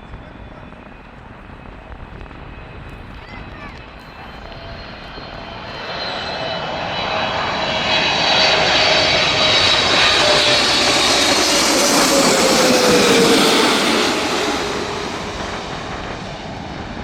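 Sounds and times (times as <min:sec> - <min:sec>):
high jet engine whine: 0:00.0 - 0:17.0
jet airliner engine roar: 0:00.0 - 0:17.0.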